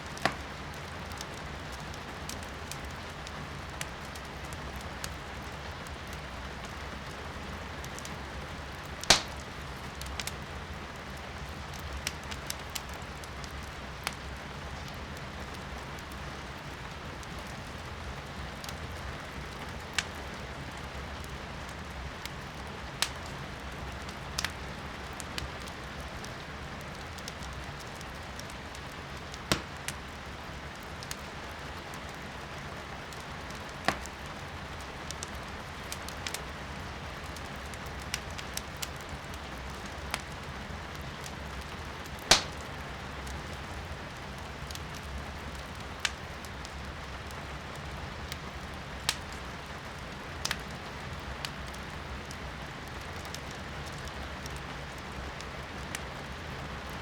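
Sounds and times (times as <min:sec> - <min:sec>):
firewood crackling and popping: 0:00.0 - 0:57.0.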